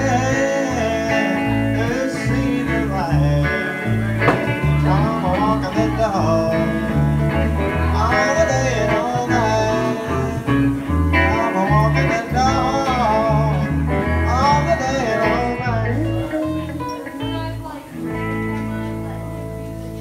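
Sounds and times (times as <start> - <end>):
man singing: 0.0 - 17.7
double bass low notes: 0.0 - 20.0
electric guitar: 0.0 - 20.0.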